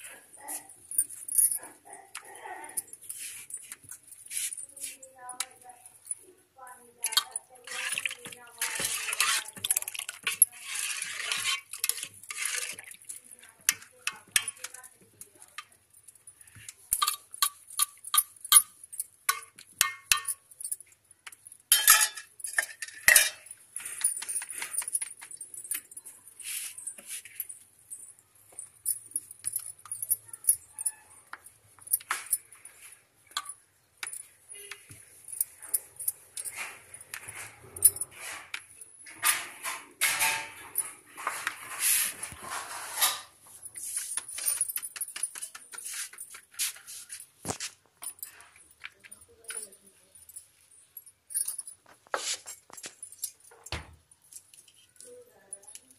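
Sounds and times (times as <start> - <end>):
bangles and utensils clinking: 0.0 - 55.9.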